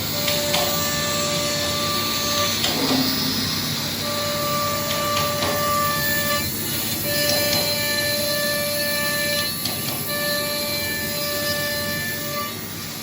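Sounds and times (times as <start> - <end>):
machine hum: 0.0 - 13.0
milling machine whine: 0.0 - 13.0.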